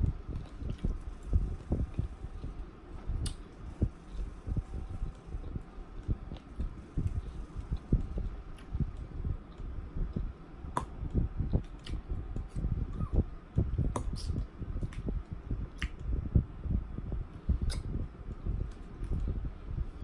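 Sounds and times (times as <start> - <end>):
moist mouth sounds: 0.0 - 16.4, 17.1 - 19.4.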